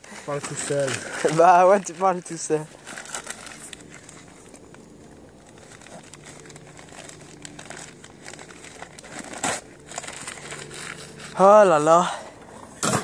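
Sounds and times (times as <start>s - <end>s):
crinkling and rustling: 0.0s - 12.0s.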